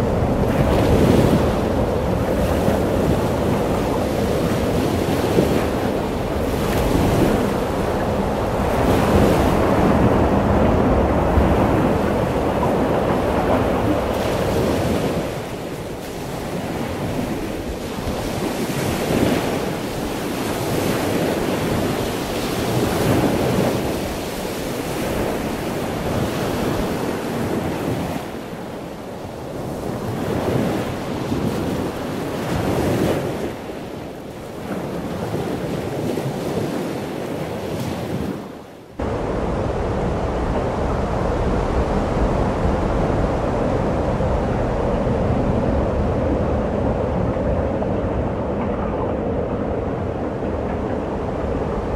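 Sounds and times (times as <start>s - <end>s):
ocean waves breaking: 0.0s - 51.9s
wind buffeting microphone: 0.0s - 51.9s.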